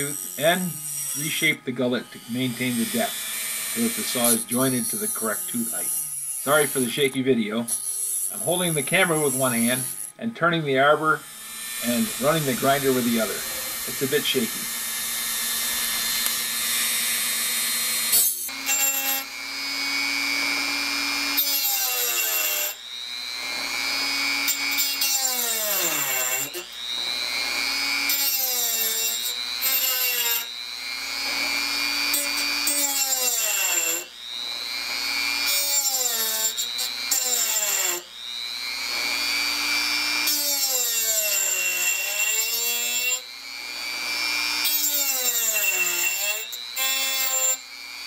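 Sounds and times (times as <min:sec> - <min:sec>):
rotary tool whine: 0:00.0 - 0:48.0.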